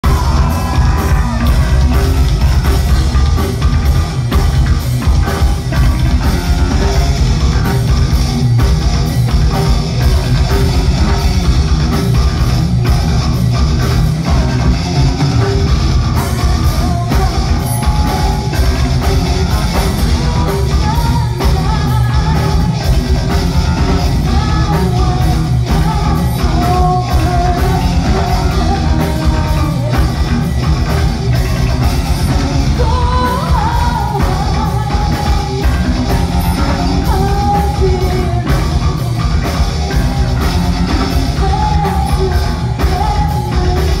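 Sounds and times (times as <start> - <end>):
heavy metal band playing: 0.0 - 44.0.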